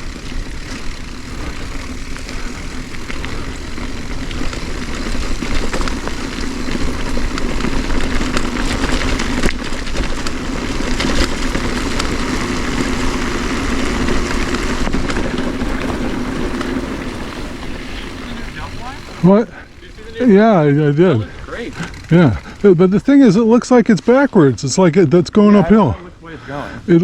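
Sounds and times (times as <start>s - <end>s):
tyres rolling over dirt and rocks: 0.0s - 26.0s.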